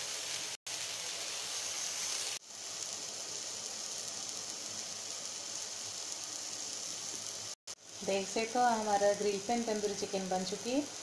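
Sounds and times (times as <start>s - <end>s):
chicken sizzling in a grill pan: 0.0s - 11.0s.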